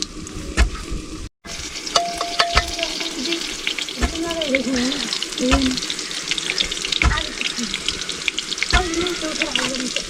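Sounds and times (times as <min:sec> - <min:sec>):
food sizzling in a pan: 0:01.4 - 0:10.0
spoon stirring against a pan: 0:01.9 - 0:10.0.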